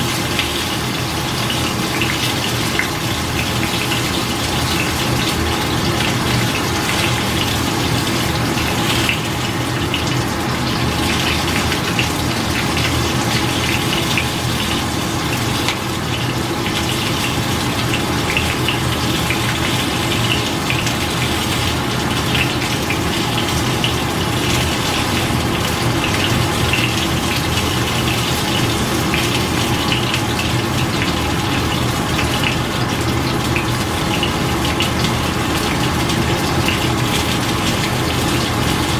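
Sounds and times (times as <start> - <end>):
water boiling in a pot: 0.0 - 38.9.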